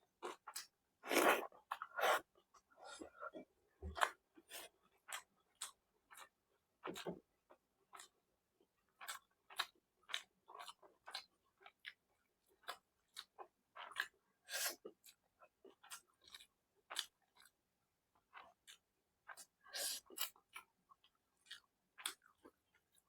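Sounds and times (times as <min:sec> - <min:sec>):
person chewing food: 0:00.2 - 0:07.2, 0:07.9 - 0:08.1, 0:09.0 - 0:17.6, 0:18.2 - 0:23.0.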